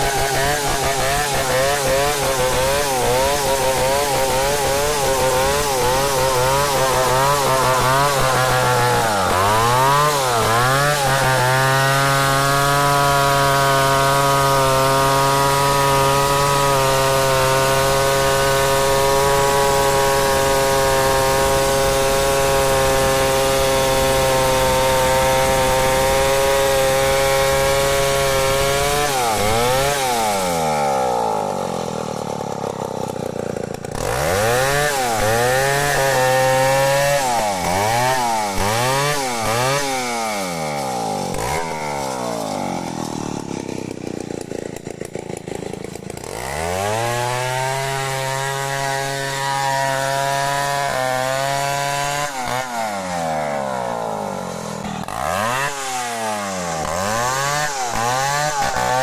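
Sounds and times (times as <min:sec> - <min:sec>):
chainsaw cutting through log: 0:00.0 - 0:59.0
chainsaw revving: 0:00.0 - 0:59.0.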